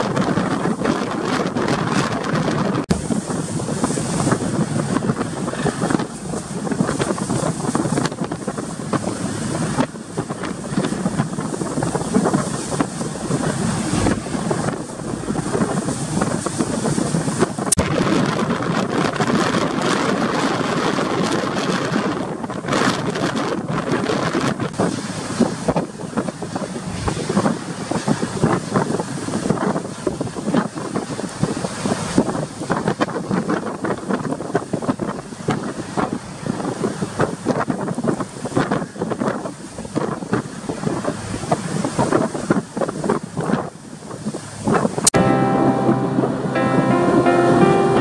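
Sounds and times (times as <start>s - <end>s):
wind buffeting microphone: 0.0s - 47.9s
rough sea rushing: 0.0s - 48.0s.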